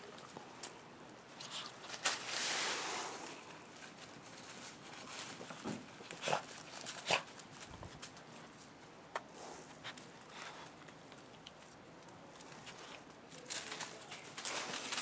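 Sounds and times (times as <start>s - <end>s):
leaf rustling: 0.0s - 15.0s
rabbit crunching leaf: 0.0s - 15.0s.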